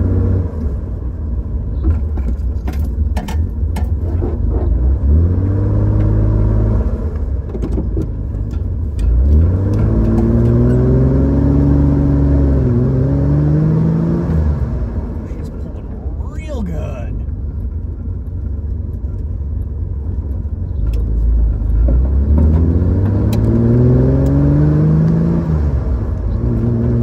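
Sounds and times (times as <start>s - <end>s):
car engine accelerating: 4.0s - 27.0s.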